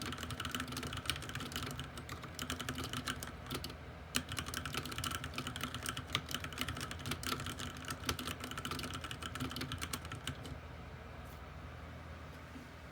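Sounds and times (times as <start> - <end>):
fast typing on mechanical keyboard: 0.0 - 10.6
low background hum: 0.0 - 12.9.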